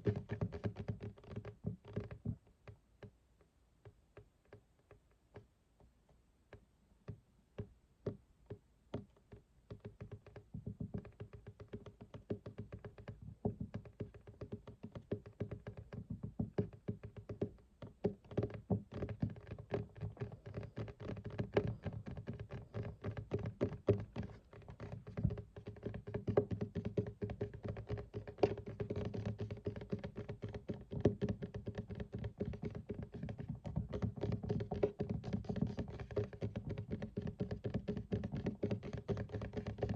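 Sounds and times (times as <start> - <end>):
fingers tapping on desk: 0.0 - 39.9.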